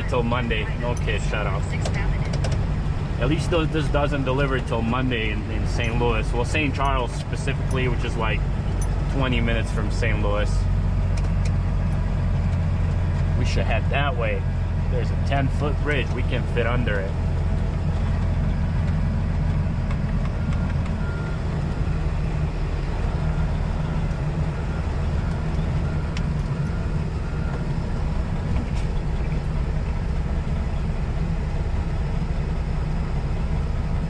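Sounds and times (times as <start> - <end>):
truck diesel engine running: 0.0 - 34.0.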